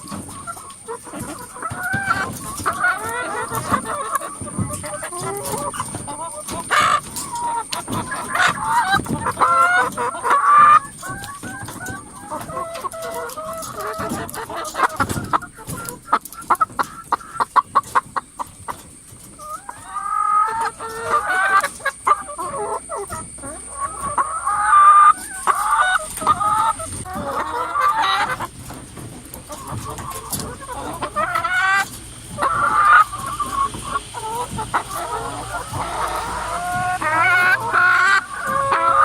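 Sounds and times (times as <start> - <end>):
hens clucking and squawking: 0.0 - 39.0.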